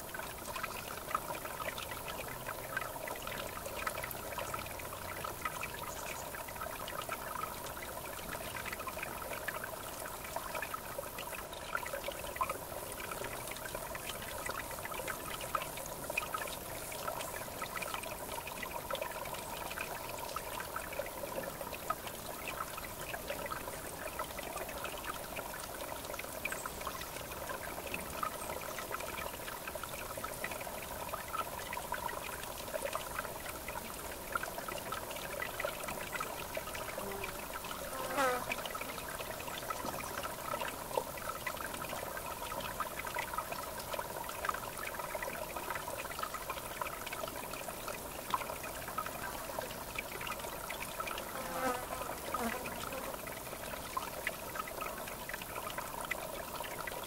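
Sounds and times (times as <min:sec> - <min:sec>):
river water babbling: 0:00.0 - 0:57.0.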